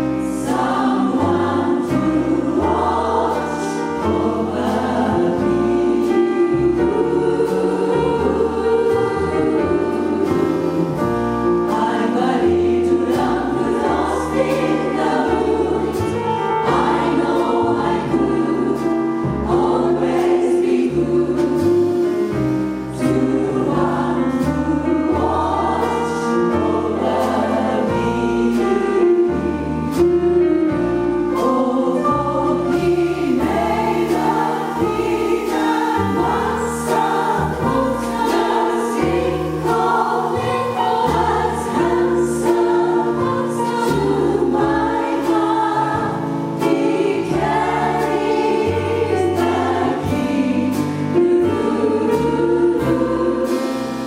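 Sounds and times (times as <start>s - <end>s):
bass notes: 0.0s - 54.0s
jazz chorus singing: 0.0s - 54.0s
steady cymbal beat: 0.0s - 54.0s.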